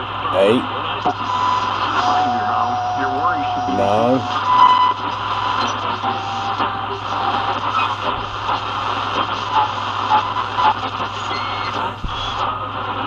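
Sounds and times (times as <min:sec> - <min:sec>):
radio static hissing: 0:00.0 - 0:13.0.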